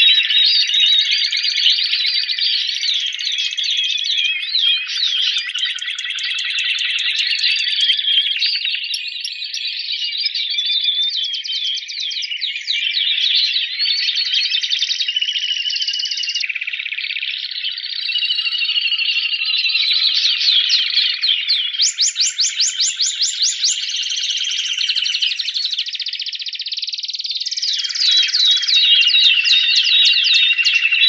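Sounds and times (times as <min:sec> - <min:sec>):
canary singing trills: 0:00.0 - 0:31.0.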